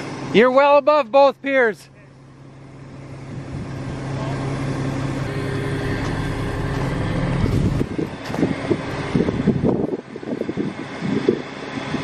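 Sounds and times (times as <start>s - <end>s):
crane diesel engine running: 0.0s - 12.0s.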